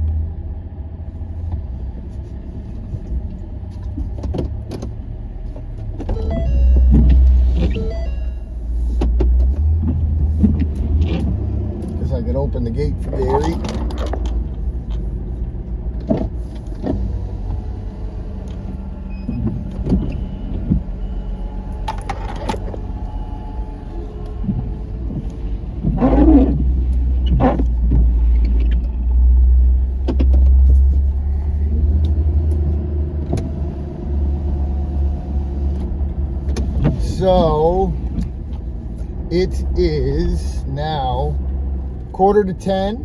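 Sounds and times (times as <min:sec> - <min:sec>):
vehicle engine rumbling: 0:00.0 - 0:43.0.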